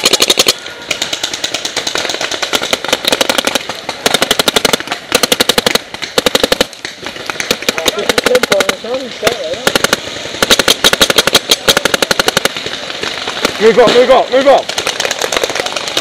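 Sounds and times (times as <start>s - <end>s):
paintball markers firing rapidly: 0.0s - 16.0s.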